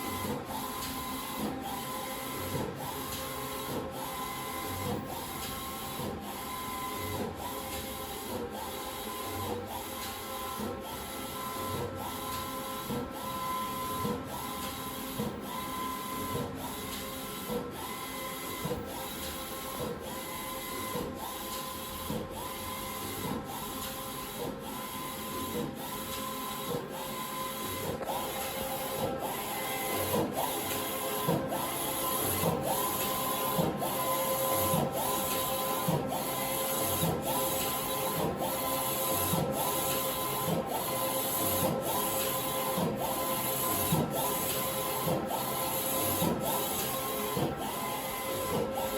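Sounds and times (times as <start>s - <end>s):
printer carriage whirring: 0.0s - 48.9s.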